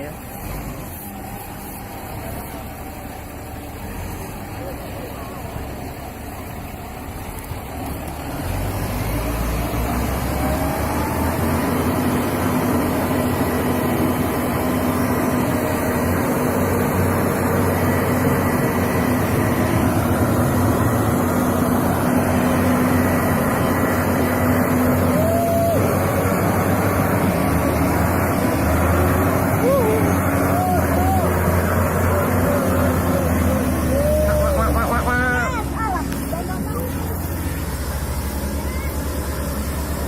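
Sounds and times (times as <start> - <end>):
truck engine under load: 0.0 - 40.0.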